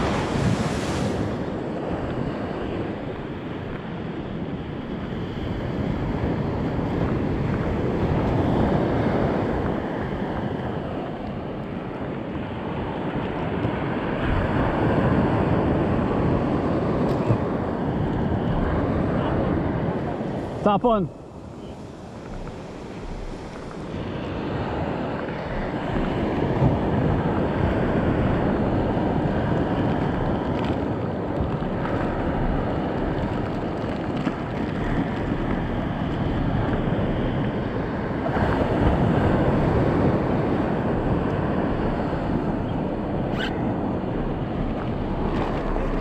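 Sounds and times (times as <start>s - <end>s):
surf washing on a beach: 0.0s - 46.0s
wind buffeting the microphone: 0.0s - 46.0s.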